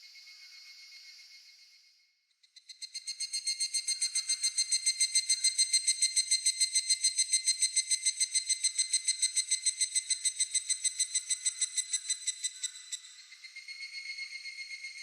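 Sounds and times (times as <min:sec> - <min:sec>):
cicada calling in ringing pulses: 0:02.6 - 0:15.0.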